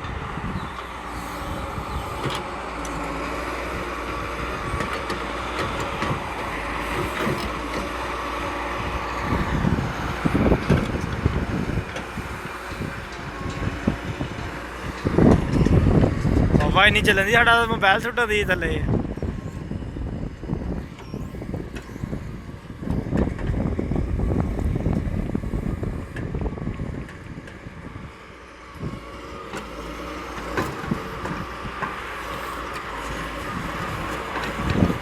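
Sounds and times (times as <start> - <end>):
wind buffeting microphone: 0.0 - 29.2, 32.8 - 35.0
vehicle rumble: 0.0 - 35.0.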